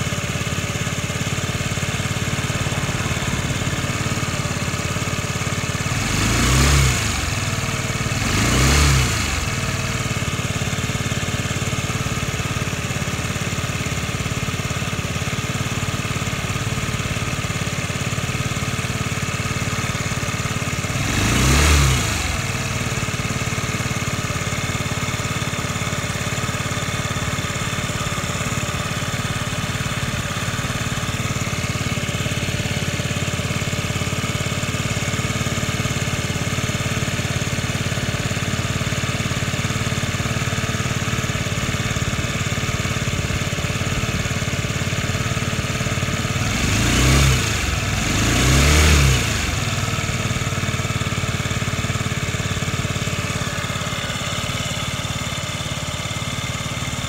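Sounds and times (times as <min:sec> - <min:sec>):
moped engine idling and revving: 0:00.0 - 0:57.0.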